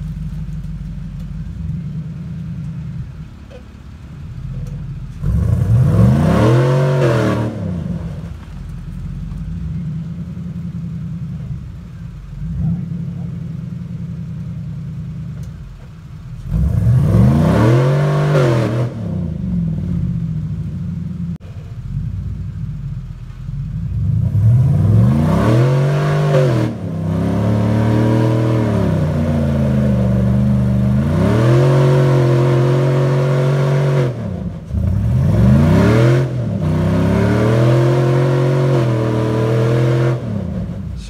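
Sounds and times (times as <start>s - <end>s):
engine revving under load: 1.2s - 15.6s, 16.2s - 23.0s, 23.6s - 41.0s.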